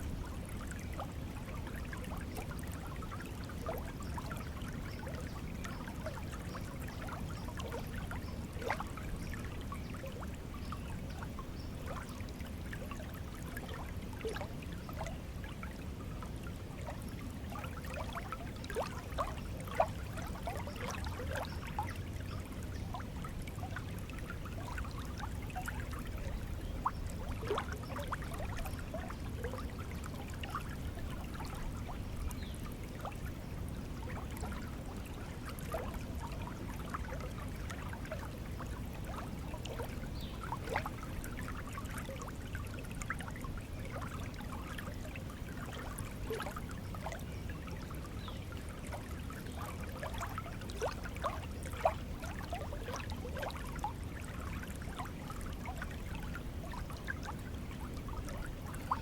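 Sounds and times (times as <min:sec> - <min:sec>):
water bubbling and trickling: 0:00.0 - 0:59.0.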